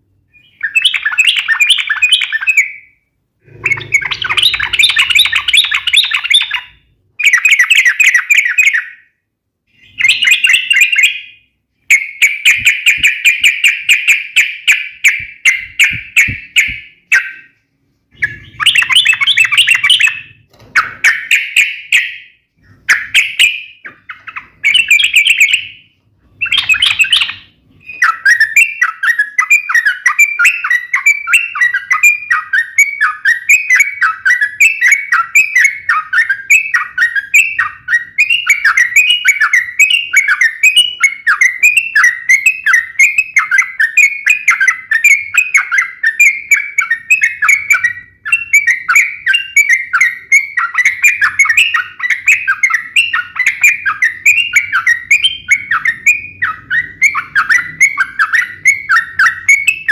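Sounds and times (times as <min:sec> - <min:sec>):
bulbul singing: 0:00.2 - 0:59.9.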